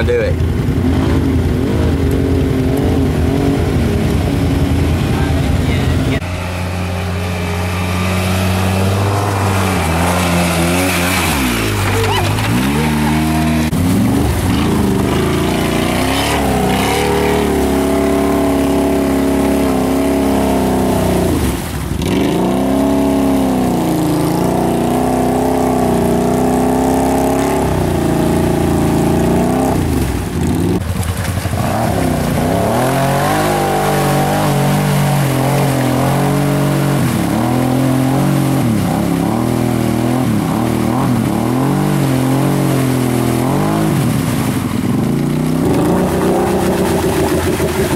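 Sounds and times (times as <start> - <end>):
atv engines revving: 0.0 - 47.9.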